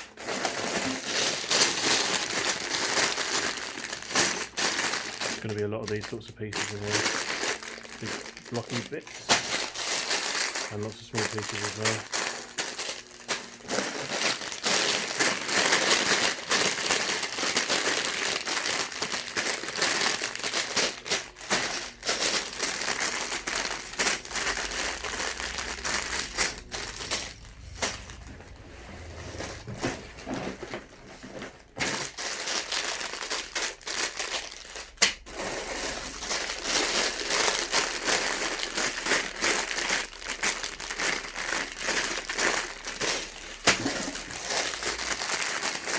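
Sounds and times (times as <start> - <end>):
plastic bags crinkling: 0.0 - 45.9.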